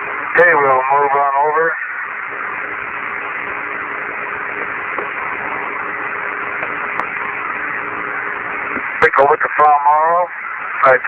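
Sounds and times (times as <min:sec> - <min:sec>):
faint hum: 0:00.0 - 0:11.0
radio static hiss: 0:00.0 - 0:11.0.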